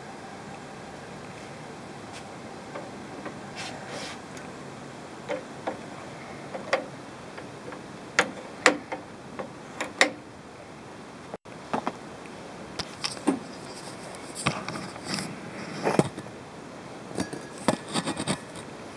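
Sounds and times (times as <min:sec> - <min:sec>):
steady gas hiss: 0:00.0 - 0:11.4, 0:12.0 - 0:18.9.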